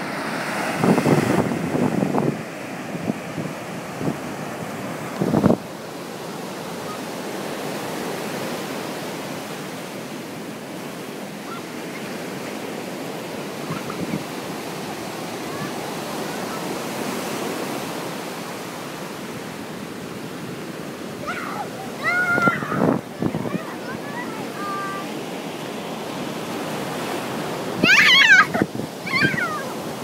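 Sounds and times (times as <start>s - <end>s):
ocean surf breaking on a beach: 0.0s - 30.0s.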